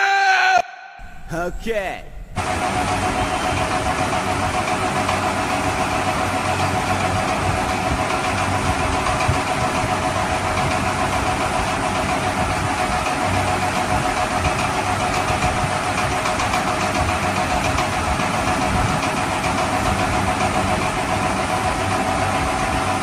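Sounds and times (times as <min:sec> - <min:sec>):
engine-like drone: 0:02.4 - 0:23.0.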